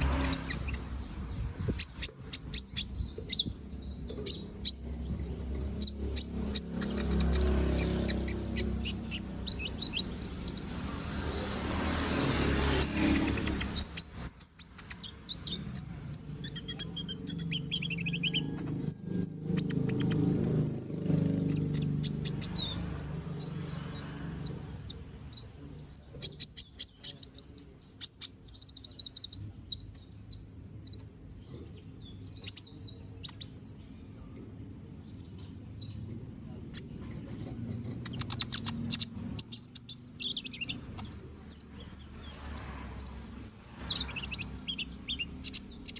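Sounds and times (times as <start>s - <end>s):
sunbird twittering chirps and trills: 0.0s - 45.9s.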